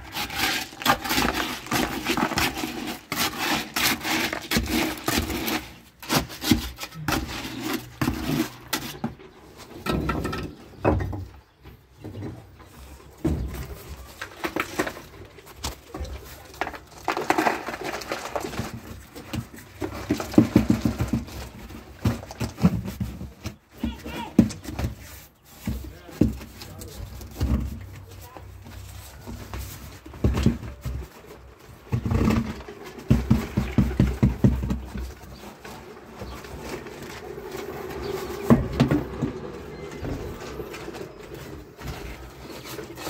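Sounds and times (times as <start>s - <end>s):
stones knocking and scraping: 0.0s - 11.2s, 13.1s - 43.0s.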